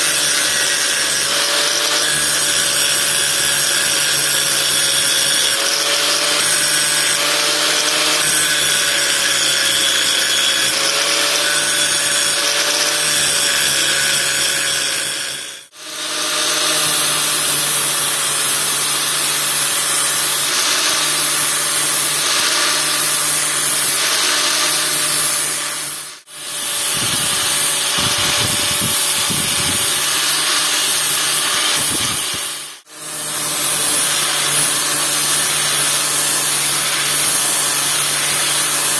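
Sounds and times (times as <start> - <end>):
handheld power tool running: 0.0 - 38.9.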